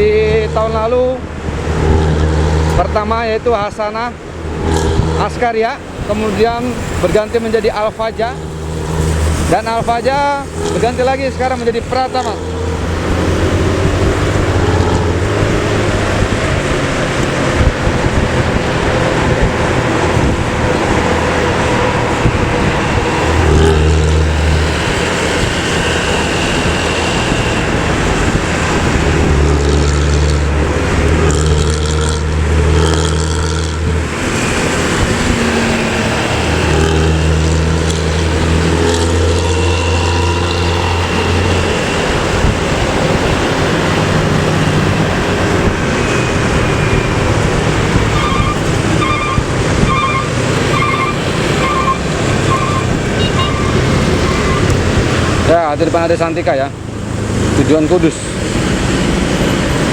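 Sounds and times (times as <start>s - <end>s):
coach diesel engine rumbling: 0.0s - 59.9s
highway traffic: 0.0s - 59.9s.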